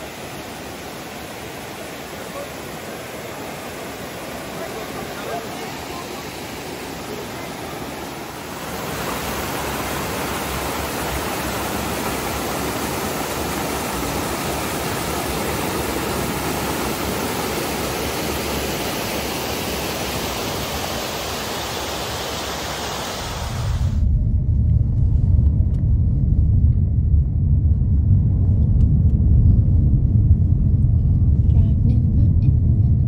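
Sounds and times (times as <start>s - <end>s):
steady rushing noise: 0.0s - 33.0s.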